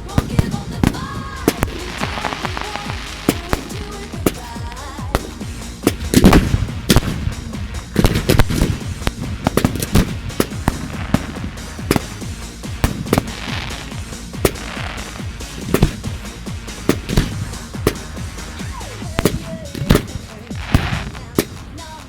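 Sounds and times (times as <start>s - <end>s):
fireworks bursting with sharp bangs: 0.0s - 22.0s
fireworks crackling: 0.0s - 22.0s.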